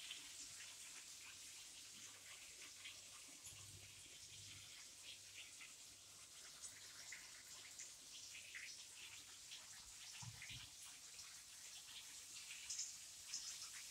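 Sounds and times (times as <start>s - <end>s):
soft ticks and crackles: 0.0s - 13.9s.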